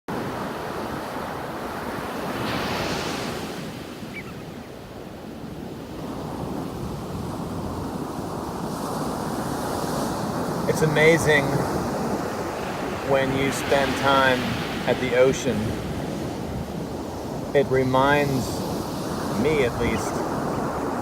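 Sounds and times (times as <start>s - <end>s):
ocean surf washing on beach: 0.1s - 21.0s.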